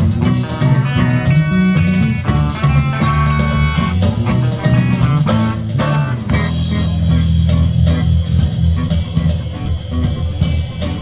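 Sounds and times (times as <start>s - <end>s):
bass guitar: 0.0s - 11.0s
drum kit: 0.0s - 11.0s
electric lead guitar: 0.0s - 11.0s.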